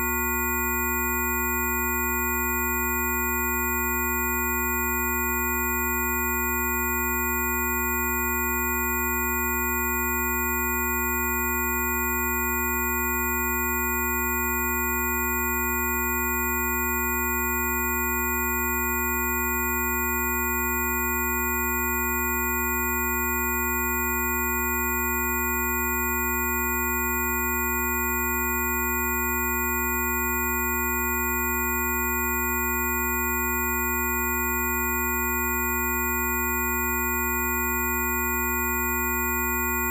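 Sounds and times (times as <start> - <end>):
chord of steady sine tones: 0.0 - 39.9.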